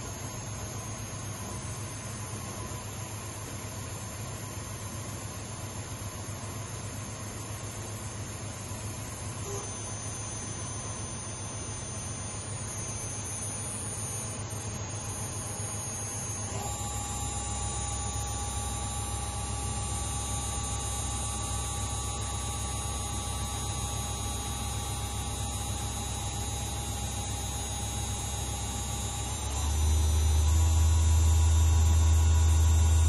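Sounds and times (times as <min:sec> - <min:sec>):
machine low hum: 0:00.0 - 0:33.0
machine high whine: 0:06.2 - 0:33.0.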